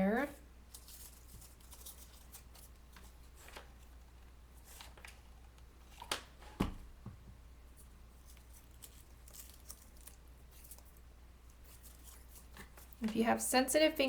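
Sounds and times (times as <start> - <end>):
paper rustling: 0.7 - 6.6, 7.8 - 13.3.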